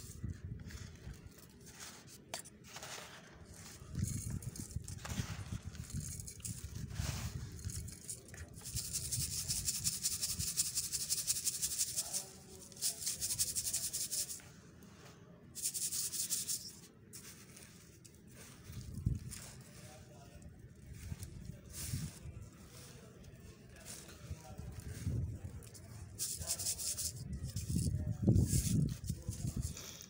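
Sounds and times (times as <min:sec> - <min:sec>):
grains sifting through metal sieve: 0:00.0 - 0:30.0.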